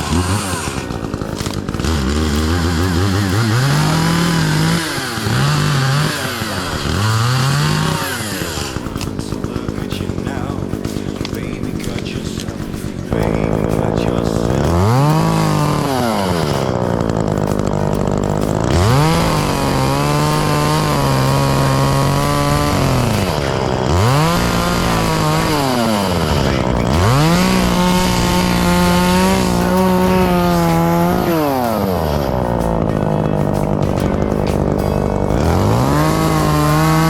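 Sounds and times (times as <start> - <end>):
chainsaw cutting brush: 0.0 - 37.0.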